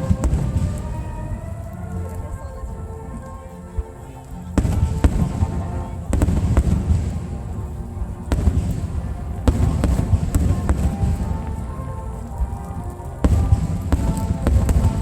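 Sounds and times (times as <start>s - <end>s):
fireworks booming and crackling: 0.0s - 2.6s, 4.5s - 15.0s
music playing: 0.0s - 15.0s.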